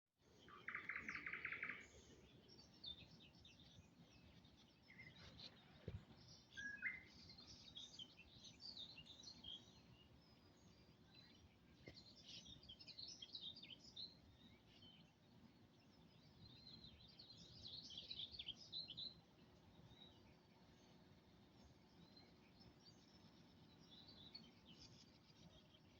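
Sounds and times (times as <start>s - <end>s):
small birds chirping: 0.2s - 25.9s.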